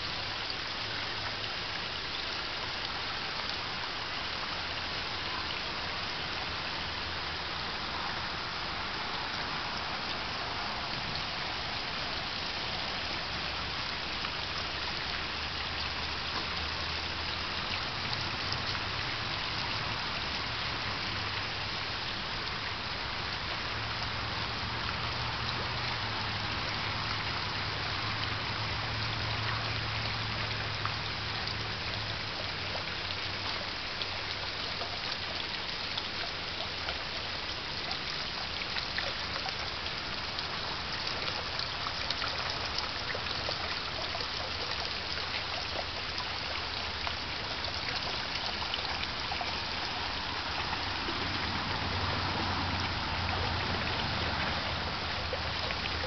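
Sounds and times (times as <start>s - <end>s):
water splashing over rocks: 0.0s - 56.0s.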